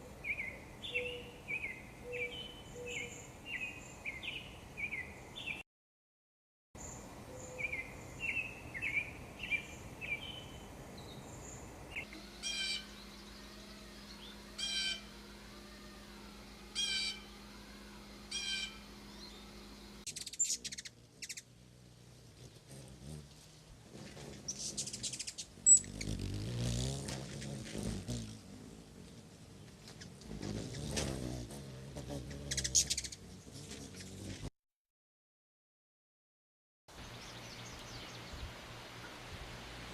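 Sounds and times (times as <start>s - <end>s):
birds chirping: 0.0s - 5.6s, 6.8s - 34.5s, 36.9s - 39.2s.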